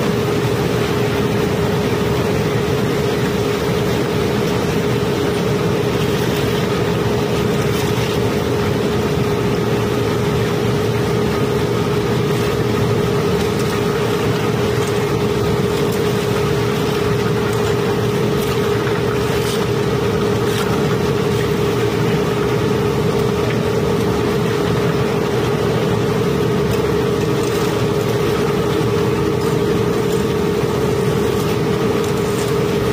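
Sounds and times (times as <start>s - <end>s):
machinery droning: 0.0s - 32.9s.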